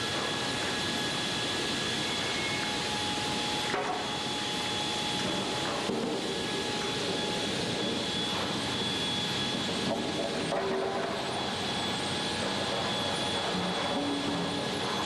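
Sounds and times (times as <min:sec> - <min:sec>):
high whine: 0:00.0 - 0:15.0
sawmill machinery din: 0:02.0 - 0:15.0.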